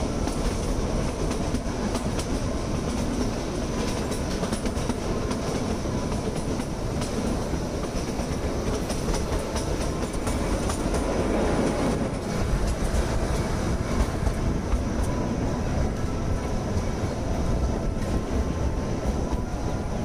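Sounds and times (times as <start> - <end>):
clacking rail joints: 0.0 - 20.0
train wheels rumbling on rails: 0.0 - 20.0.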